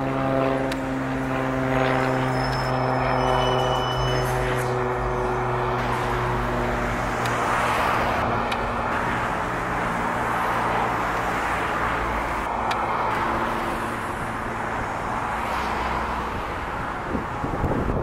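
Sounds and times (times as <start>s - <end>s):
cars passing: 0.0s - 18.0s.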